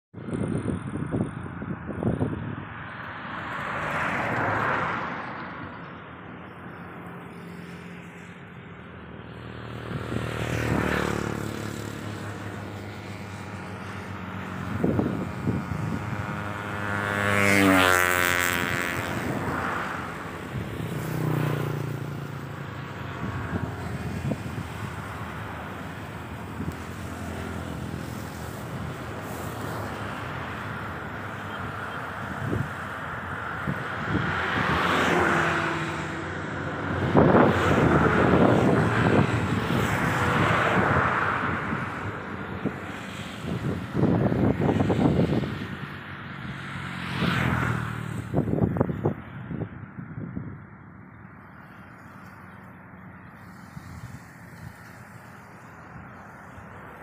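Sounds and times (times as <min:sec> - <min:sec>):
motor vehicles passing: 0:00.2 - 0:57.0.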